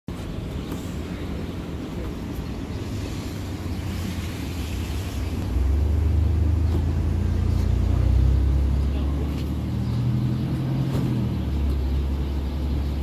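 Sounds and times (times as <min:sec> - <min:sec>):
car engine rumble: 0:00.1 - 0:13.0.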